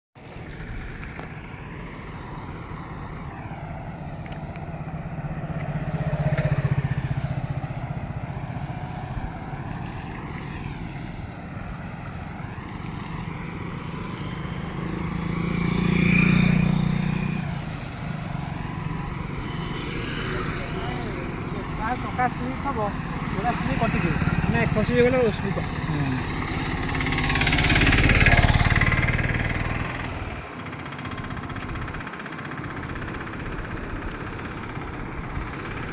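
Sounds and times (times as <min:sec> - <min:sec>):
vehicles passing: 0:00.2 - 0:35.9.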